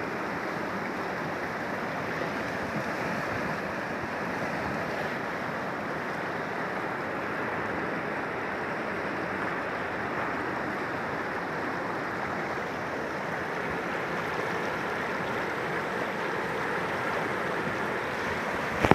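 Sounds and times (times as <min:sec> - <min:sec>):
floodwater rushing: 0:00.0 - 0:18.9.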